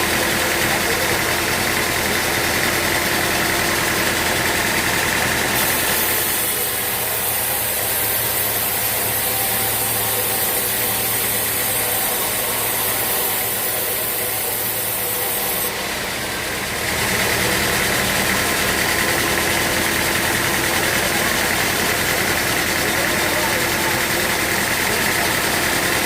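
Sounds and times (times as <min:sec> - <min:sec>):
sawmill machinery hum: 0:00.0 - 0:26.0.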